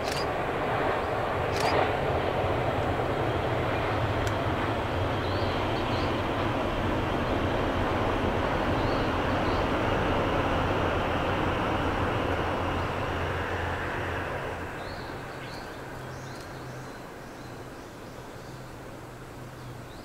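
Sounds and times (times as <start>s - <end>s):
high-speed train roaring past: 0.0s - 20.0s.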